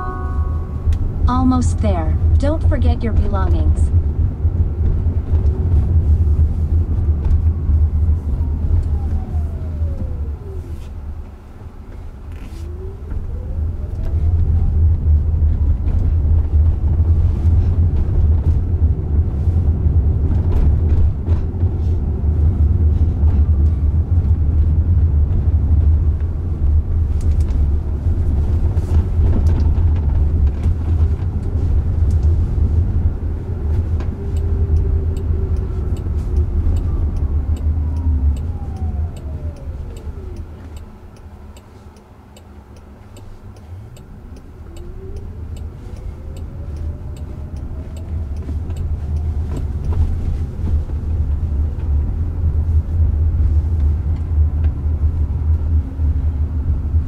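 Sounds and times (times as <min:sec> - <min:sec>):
road and tyre rumble: 0:00.0 - 0:57.0.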